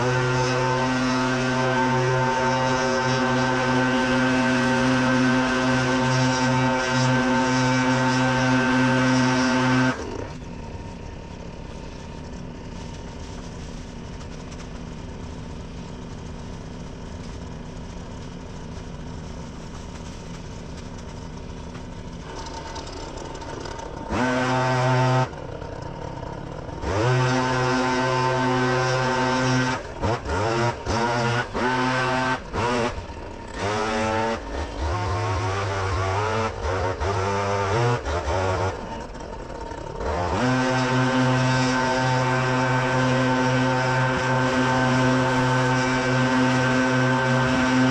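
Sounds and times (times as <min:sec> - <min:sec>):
small gasoline engine revving: 0:00.0 - 0:47.9.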